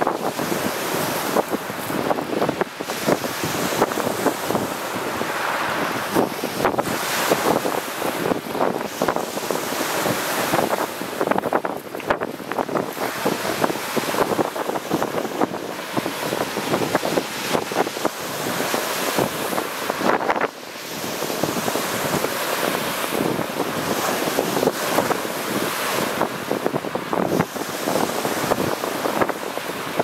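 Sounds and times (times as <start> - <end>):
surf washing over pebbly shore: 0.0 - 30.0
wind buffeting microphone: 0.0 - 30.0.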